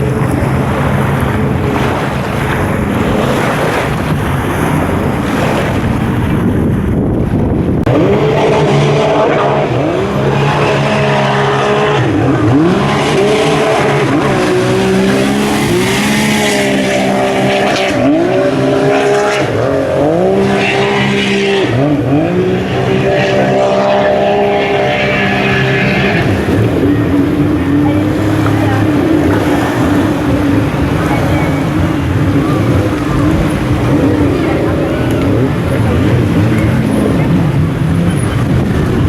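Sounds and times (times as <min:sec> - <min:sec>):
jet ski engines revving: 0:00.0 - 0:39.0
water noise: 0:00.0 - 0:39.0
wind: 0:00.0 - 0:39.0.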